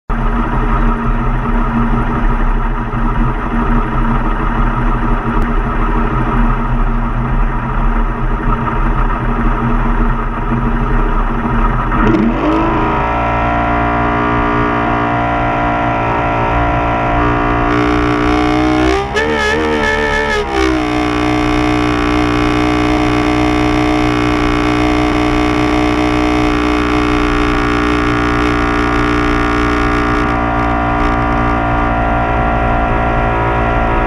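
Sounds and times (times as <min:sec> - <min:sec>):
motorboat engine: 0:00.1 - 0:34.0.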